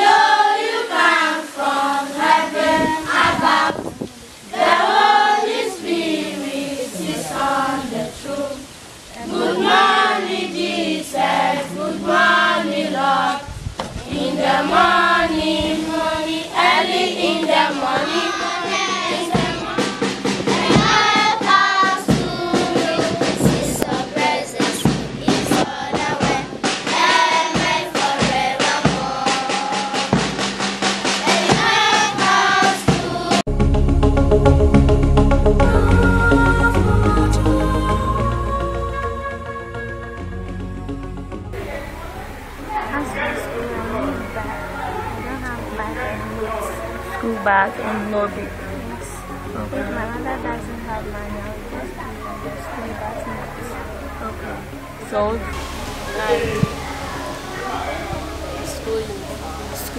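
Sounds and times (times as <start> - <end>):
children singing in unison: 0.0 - 33.5, 35.6 - 40.3, 41.5 - 59.9.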